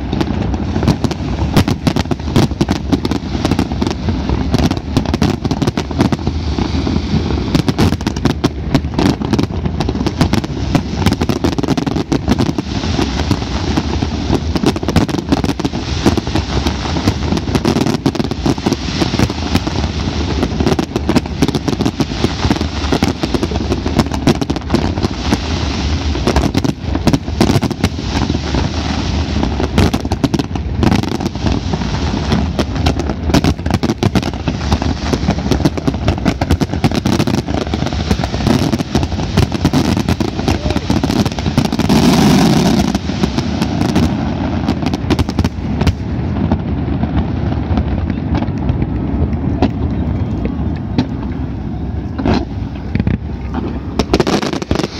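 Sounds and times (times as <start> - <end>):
fireworks bursting and crackling: 0.0 - 54.9.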